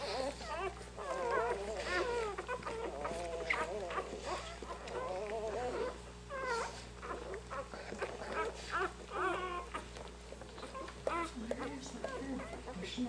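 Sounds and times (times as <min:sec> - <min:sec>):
low steady hum: 0:00.0 - 0:13.0
puppies squeaking and whimpering: 0:00.0 - 0:13.0.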